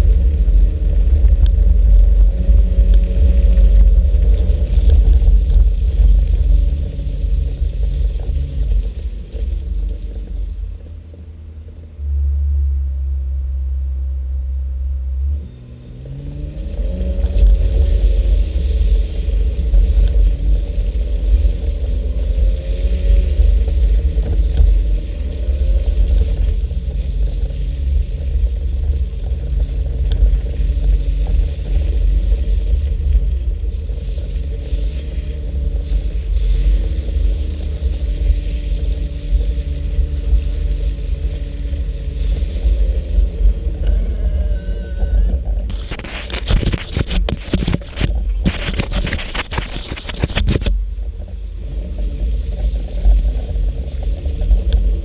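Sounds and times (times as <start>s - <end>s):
car engine accelerating: 0.0s - 46.1s.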